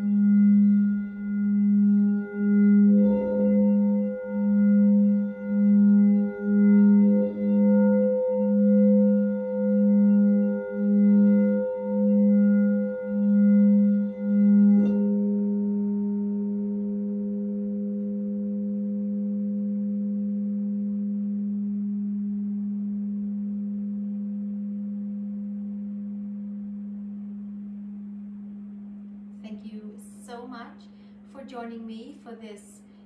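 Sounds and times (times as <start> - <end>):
singing bowl humming: 0.0 - 31.5.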